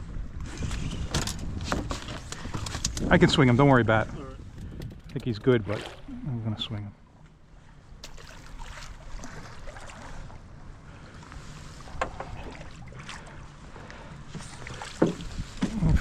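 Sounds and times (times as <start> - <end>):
boat engine rumble: 0.0 - 16.0.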